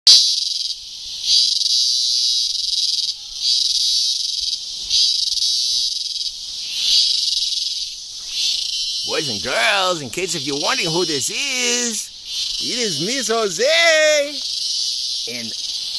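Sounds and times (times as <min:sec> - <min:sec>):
insects buzzing: 0:00.1 - 0:15.9.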